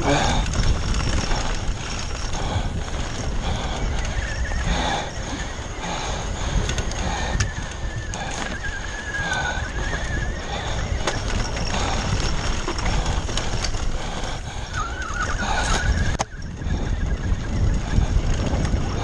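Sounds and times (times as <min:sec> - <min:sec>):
bike clattering over bumps: 0:00.0 - 0:16.9
wind rumble on microphone: 0:00.0 - 0:19.0.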